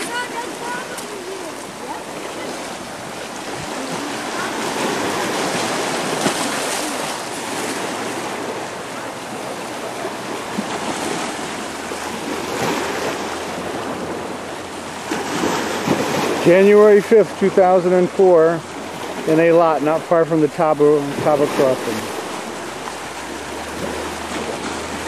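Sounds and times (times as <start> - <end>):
waves washing over rocks and pebbles: 0.0 - 25.0.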